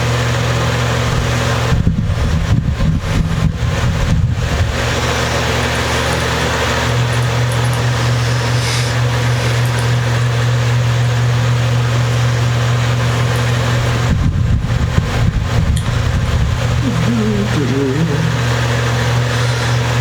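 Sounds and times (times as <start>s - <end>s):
motor-like hum: 0.0s - 20.0s.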